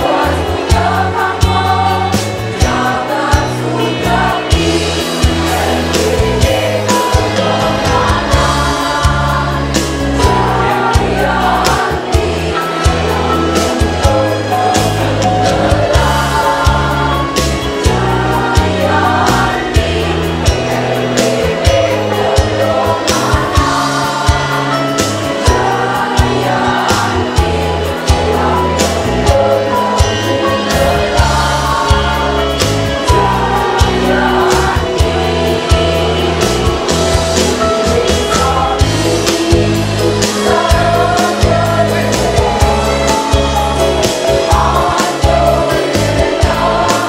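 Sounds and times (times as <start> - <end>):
instrumental accompaniment: 0.0 - 47.0
music with steady beat and bass: 0.0 - 47.0
women's choir singing a march: 0.0 - 47.0.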